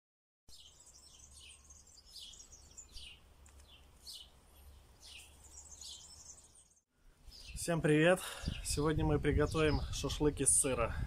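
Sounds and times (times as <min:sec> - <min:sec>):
small birds chirping faintly: 0:00.5 - 0:10.5.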